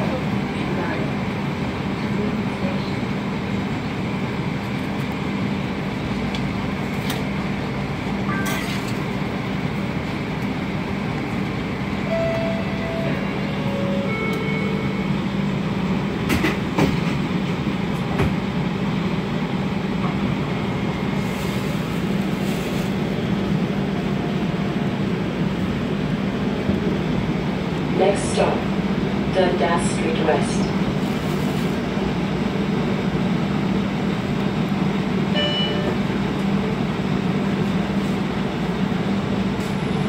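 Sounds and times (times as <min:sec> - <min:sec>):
streetcar hum and rumble: 0:00.0 - 0:40.0.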